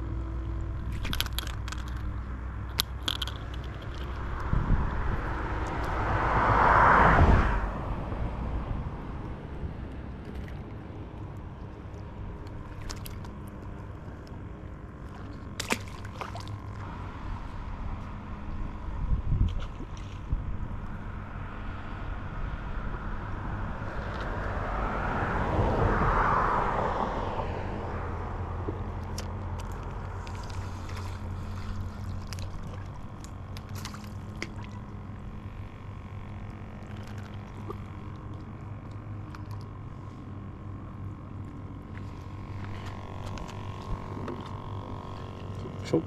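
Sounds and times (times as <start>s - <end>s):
boat motor humming: 0.0s - 46.0s.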